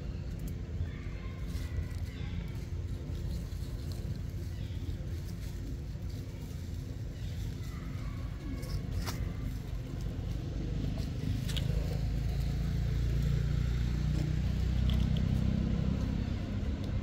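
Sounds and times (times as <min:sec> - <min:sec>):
vehicle engine rumble: 0:00.0 - 0:17.0
dry leaves crackling: 0:00.2 - 0:17.0.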